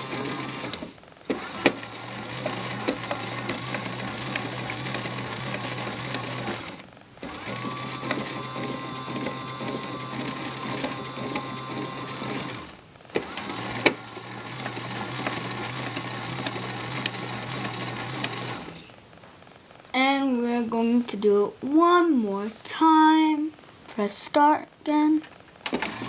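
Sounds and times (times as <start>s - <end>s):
toy washing machine motor humming: 0.0s - 22.1s, 24.9s - 26.0s.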